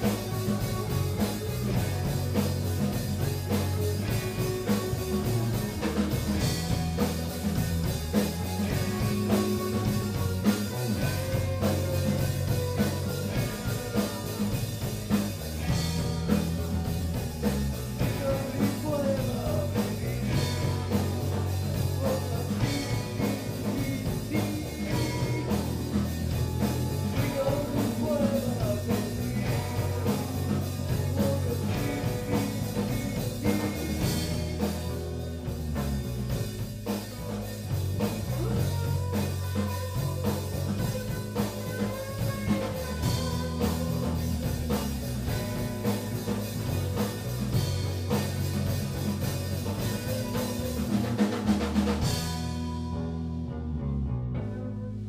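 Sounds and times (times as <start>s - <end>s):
drum kit: 0.0s - 53.6s
bass guitar: 0.0s - 55.0s
electric guitars: 0.0s - 55.0s.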